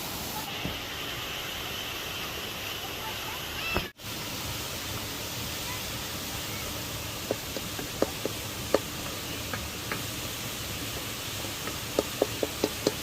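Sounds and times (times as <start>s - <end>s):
rush of falling water: 0.0s - 13.0s.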